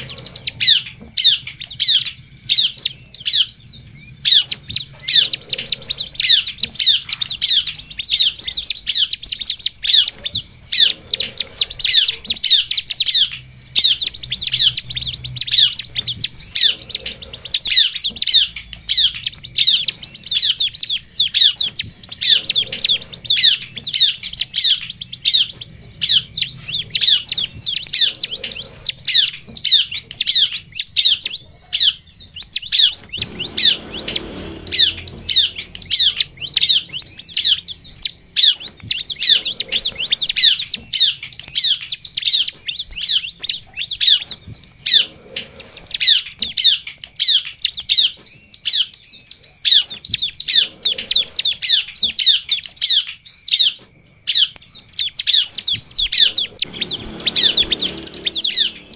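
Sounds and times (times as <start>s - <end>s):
bird singing sharp high chirps: 0.0s - 58.9s.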